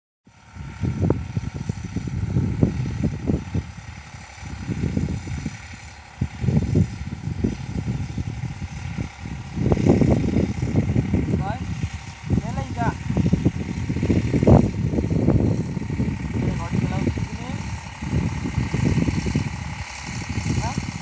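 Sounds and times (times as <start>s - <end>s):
tractor diesel engine running: 0.3s - 21.0s
wind buffeting microphone: 0.3s - 21.0s.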